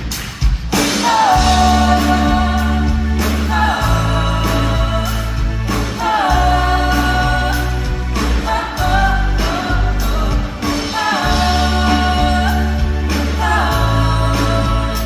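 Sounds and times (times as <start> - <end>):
live pop-rock band playing: 0.0 - 15.0.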